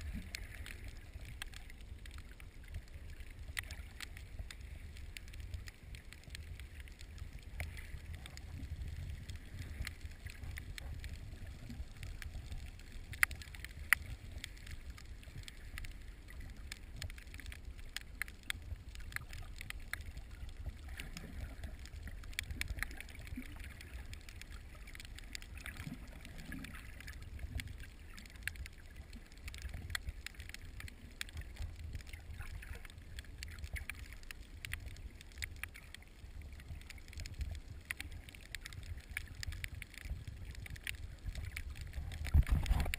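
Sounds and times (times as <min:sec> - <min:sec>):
underwater crackling clicks: 0:00.0 - 0:42.9.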